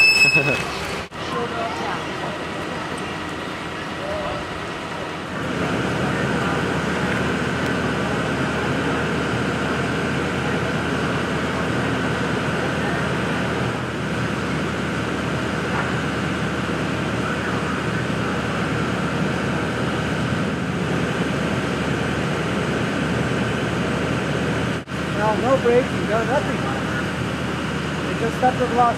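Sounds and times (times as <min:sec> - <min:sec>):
engine drone: 0:00.0 - 0:28.9.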